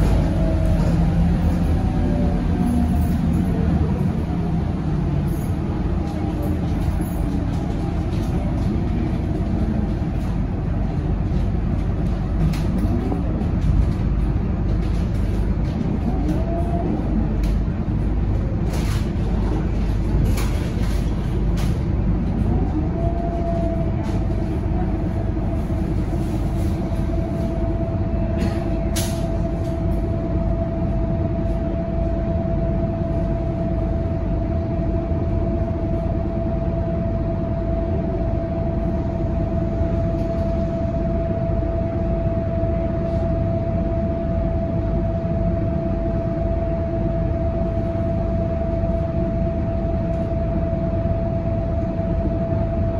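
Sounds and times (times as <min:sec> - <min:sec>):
bus diesel engine idling: 0:00.0 - 0:52.9
constant high whine: 0:00.0 - 0:52.9.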